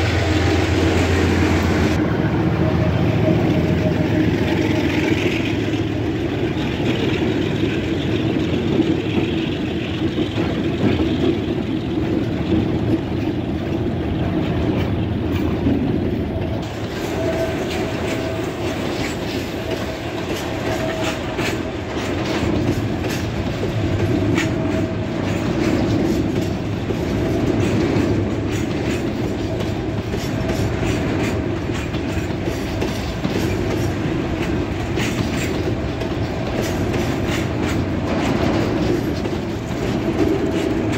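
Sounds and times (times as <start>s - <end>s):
diesel locomotive engine passing: 0.0s - 40.9s
train wheels clicking over rail joints: 3.1s - 40.9s.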